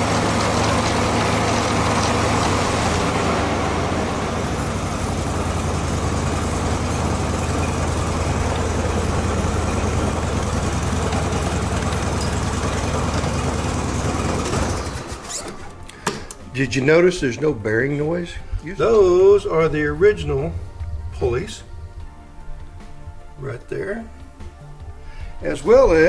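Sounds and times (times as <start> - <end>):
lawn mower running: 0.0 - 21.9.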